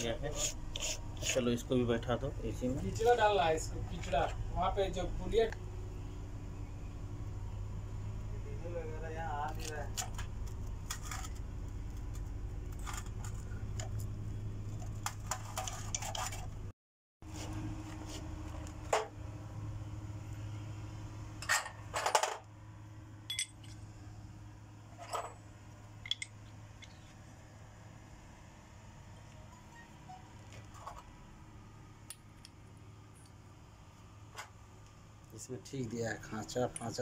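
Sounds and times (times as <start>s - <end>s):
steady low hum: 0.0s - 16.7s, 17.4s - 37.0s.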